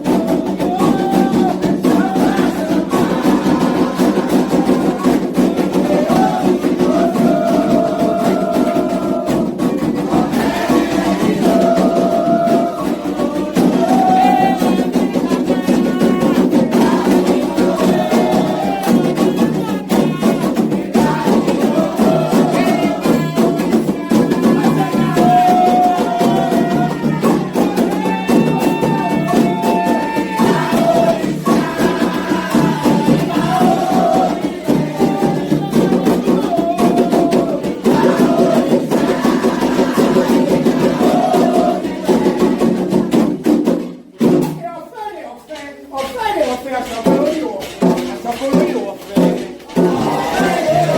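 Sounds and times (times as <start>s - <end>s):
fast hand drumming and percussion: 0.0s - 50.9s
voices singing a chant: 0.0s - 50.9s.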